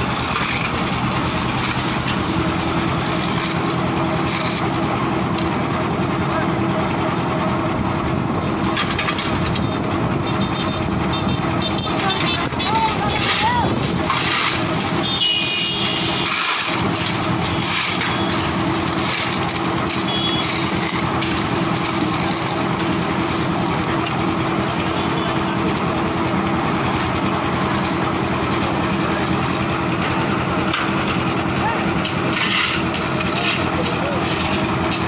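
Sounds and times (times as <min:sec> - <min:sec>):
concrete mixer humming: 0:00.0 - 0:35.0.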